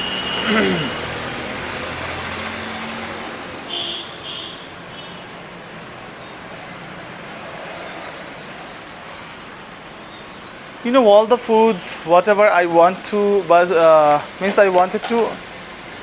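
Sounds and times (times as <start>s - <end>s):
insect trilling: 0.0s - 1.4s, 2.0s - 16.0s.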